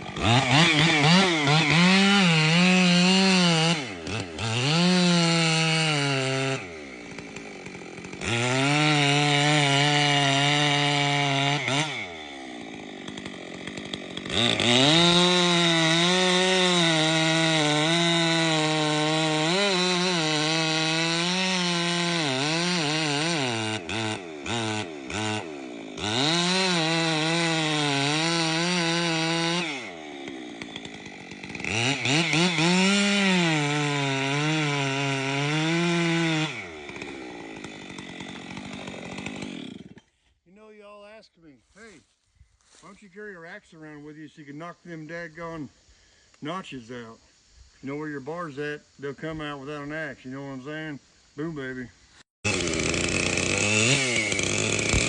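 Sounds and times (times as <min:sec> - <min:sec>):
chainsaw cutting wood: 0:00.0 - 0:40.9, 0:41.7 - 0:45.0, 0:52.4 - 0:55.0.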